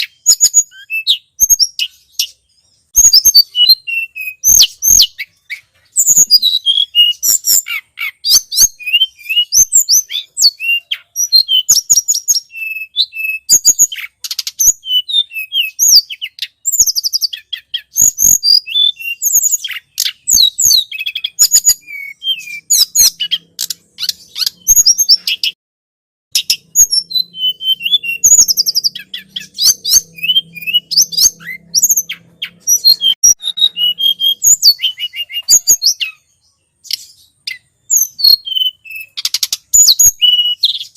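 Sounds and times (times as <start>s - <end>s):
songbird chirping and whistling: 0.0s - 25.6s, 26.3s - 40.9s.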